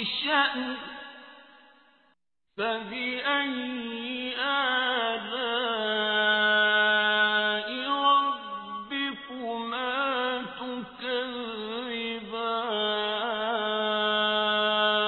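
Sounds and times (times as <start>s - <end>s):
man chanting: 0.0s - 1.0s, 2.6s - 15.0s.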